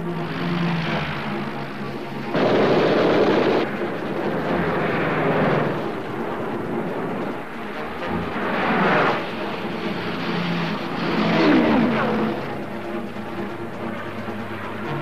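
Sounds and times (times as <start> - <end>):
propeller plane engines: 0.0 - 15.0.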